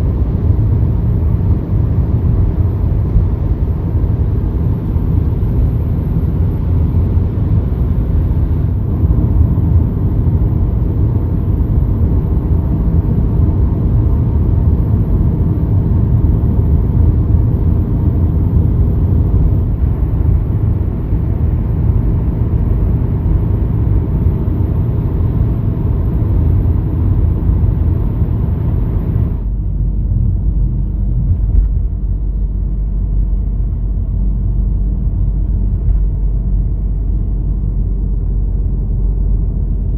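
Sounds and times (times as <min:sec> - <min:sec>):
low rumble of motor: 0:00.0 - 0:39.9.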